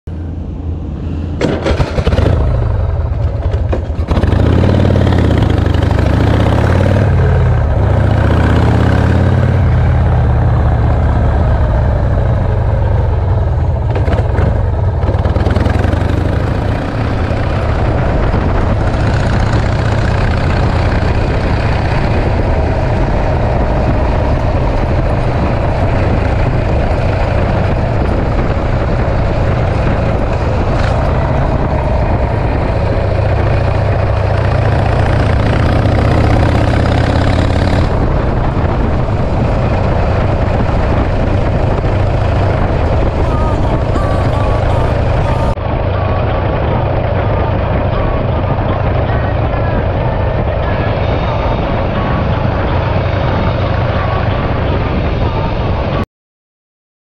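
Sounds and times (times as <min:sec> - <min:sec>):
motorcycle engine revving: 0:01.4 - 0:55.7.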